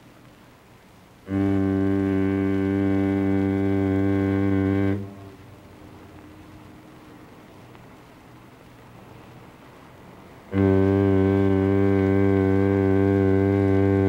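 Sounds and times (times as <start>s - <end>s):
low steady tone: 0.0s - 14.0s.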